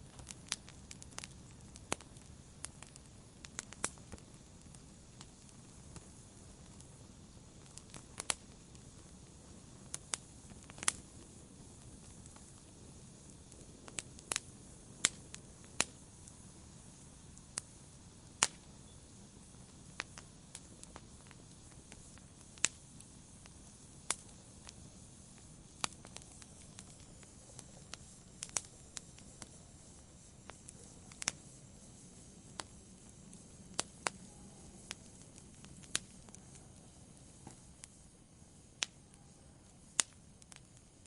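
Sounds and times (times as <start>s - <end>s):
campfire crackling: 0.0s - 41.0s
fire hiss: 0.0s - 41.0s.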